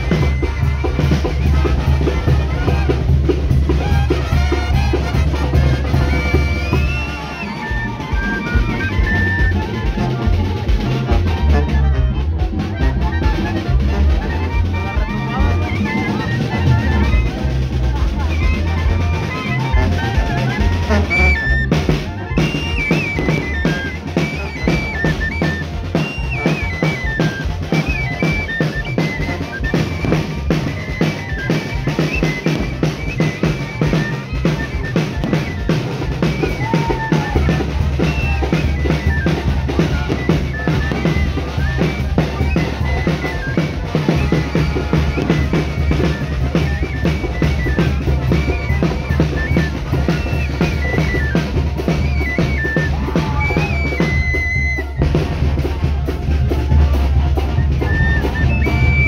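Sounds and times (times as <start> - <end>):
bass drum with cymbal: 0.0 - 59.0
clarinet: 0.0 - 59.0
snare drum: 0.0 - 59.0
trumpets: 0.0 - 59.0.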